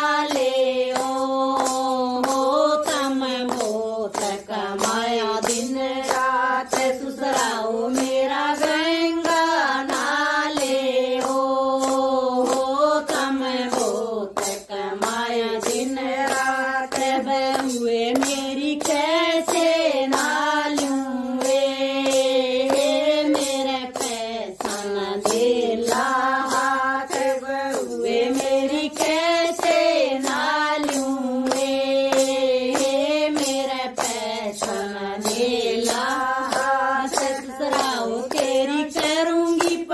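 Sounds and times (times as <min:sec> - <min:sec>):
hand claps: 0:00.0 - 0:39.9
women singing devotional song: 0:00.0 - 0:39.9.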